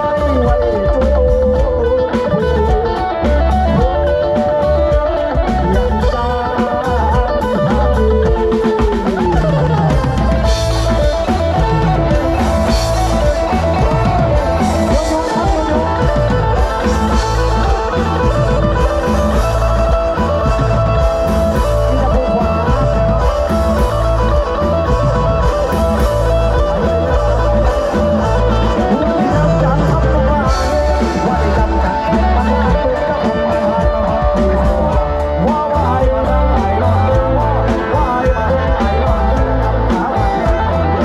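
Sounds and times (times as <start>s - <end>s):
live band music: 0.0s - 41.0s.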